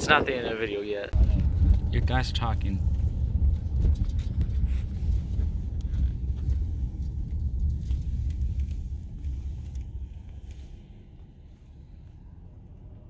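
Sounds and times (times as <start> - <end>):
road vehicle rumble: 1.1 - 13.0.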